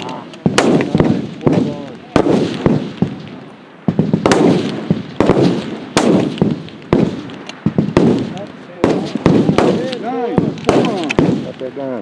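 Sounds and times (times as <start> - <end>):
rifle shots with echo: 0.0 - 11.7.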